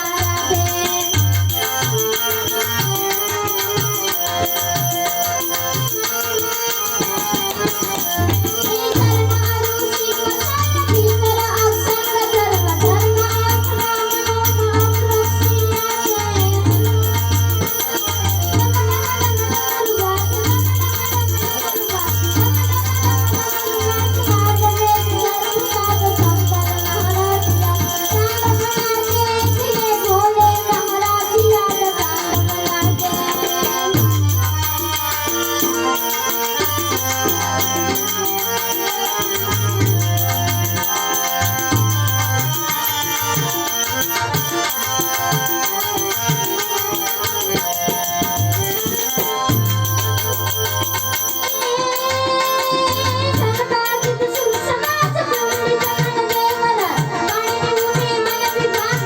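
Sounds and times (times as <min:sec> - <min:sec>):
jingling rattle percussion: 0:00.0 - 0:59.0.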